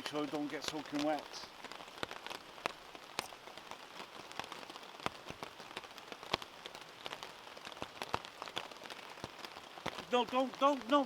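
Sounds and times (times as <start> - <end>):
steady rain with drop hits: 0.0 - 11.0.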